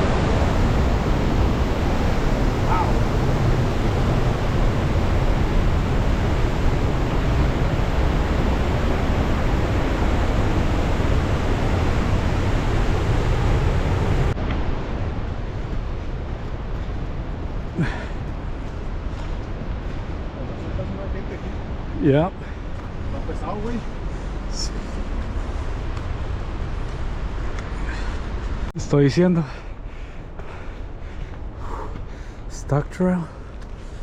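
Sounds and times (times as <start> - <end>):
mountain creek rushing: 0.0 - 34.0.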